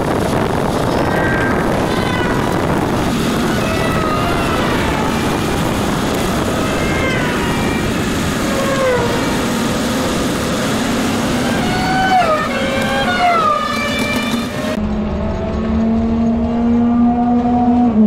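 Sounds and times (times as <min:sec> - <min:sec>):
kart engine at high revs: 0:00.0 - 0:18.0
wind noise: 0:00.0 - 0:18.0.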